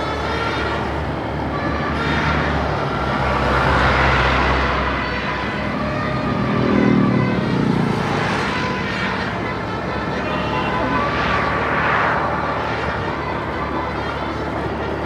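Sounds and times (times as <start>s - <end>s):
faint multi-tone horn notes: 0.0s - 15.0s
vehicle passing: 2.0s - 15.0s.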